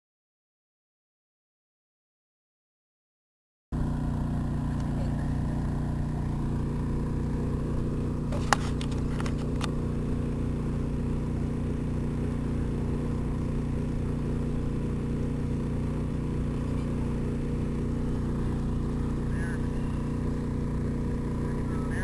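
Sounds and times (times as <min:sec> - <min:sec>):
low mechanical drone: 0:03.8 - 0:22.0.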